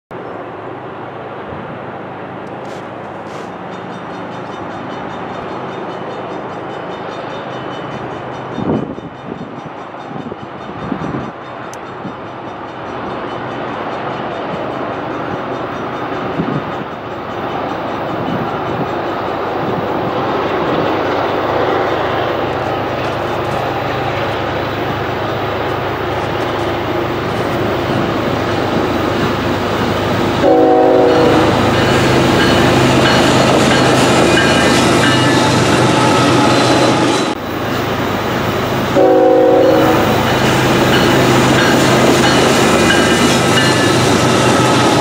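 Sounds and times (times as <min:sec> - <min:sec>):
freight train rumbling: 0:00.1 - 0:45.0.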